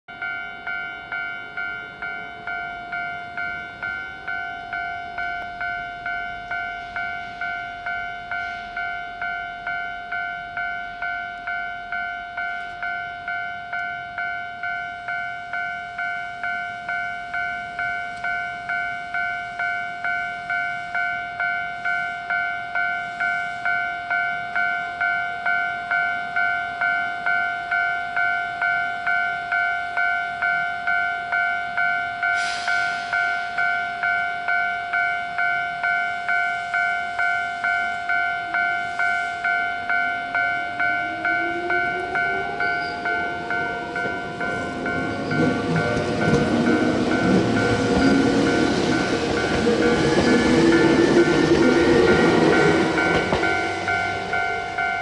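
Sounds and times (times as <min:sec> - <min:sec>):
level-crossing warning bell: 0:00.1 - 0:55.0.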